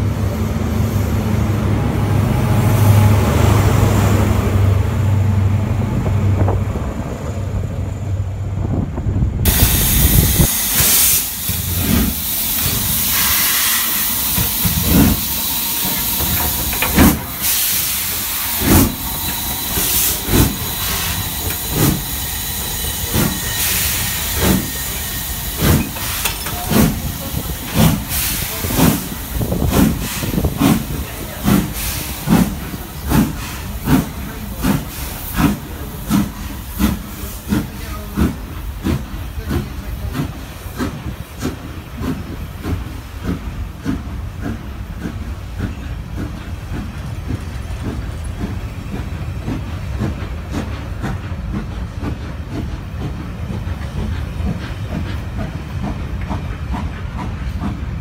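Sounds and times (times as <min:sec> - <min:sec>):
steam locomotive exhaust chuffs: 0:00.0 - 0:58.0
steam hissing: 0:09.4 - 0:58.0.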